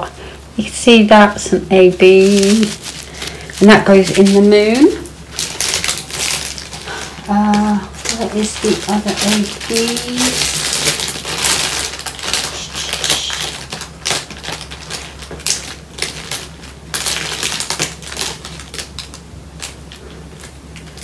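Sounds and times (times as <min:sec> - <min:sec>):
plastic bags crinkling: 0:00.9 - 0:21.0.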